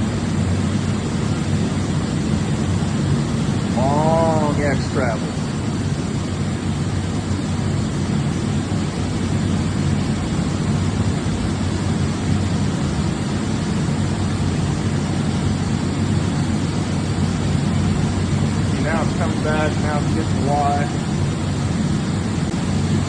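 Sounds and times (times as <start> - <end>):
machining center humming and hissing: 0.0 - 23.0.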